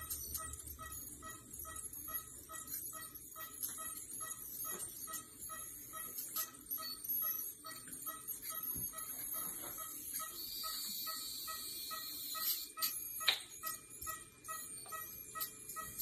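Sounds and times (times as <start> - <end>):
soft ticking beeps: 0.0 - 16.0.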